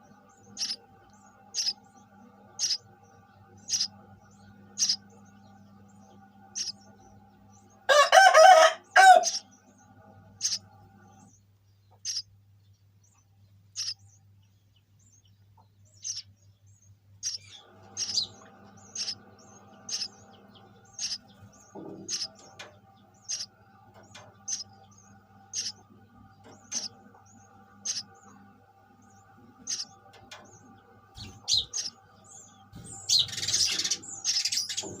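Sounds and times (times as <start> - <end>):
faint steady hum: 0.0 - 35.0
sparrow chirping: 0.0 - 35.0.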